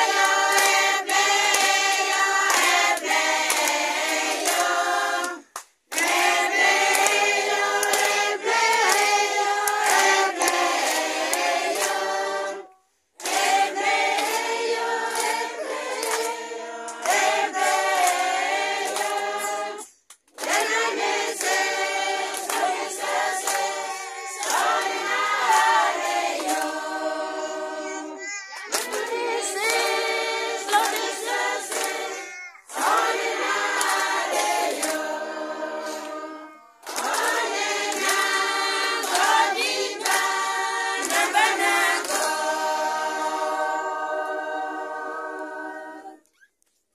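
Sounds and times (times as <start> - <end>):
hand clapping: 0.0 - 12.2, 13.2 - 27.2, 28.5 - 44.0
congregation singing: 0.0 - 46.3.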